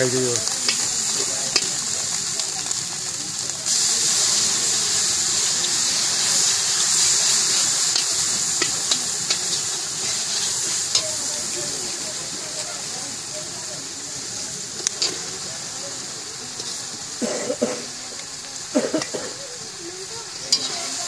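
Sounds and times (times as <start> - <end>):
batter deep-frying in hot oil: 0.0 - 21.0.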